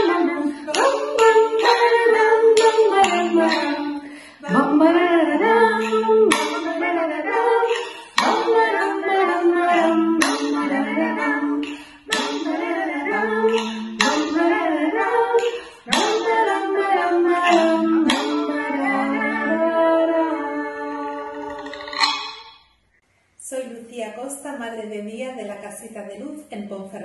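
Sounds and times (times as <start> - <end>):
women singing a children's song: 0.0 - 22.1.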